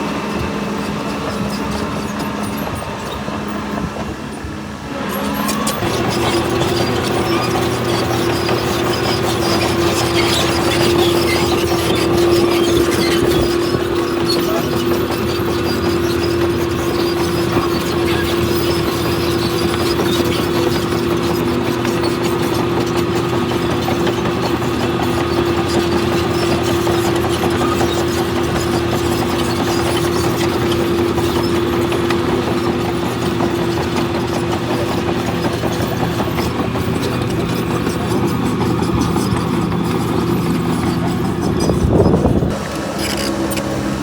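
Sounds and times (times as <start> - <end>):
constant humming tone: 0.0 - 44.0
diesel engine running: 0.0 - 44.0.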